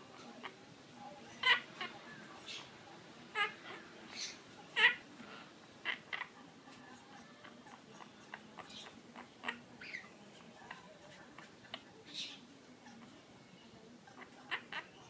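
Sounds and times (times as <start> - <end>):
parrot chirping and chattering: 0.0 - 15.0.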